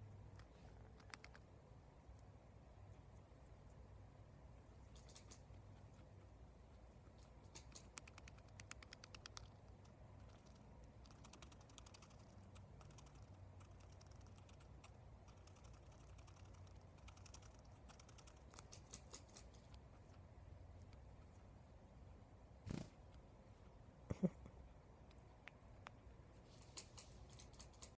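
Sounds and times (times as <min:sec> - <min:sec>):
guinea pig clicking: 0:00.0 - 0:23.3, 0:25.0 - 0:27.9.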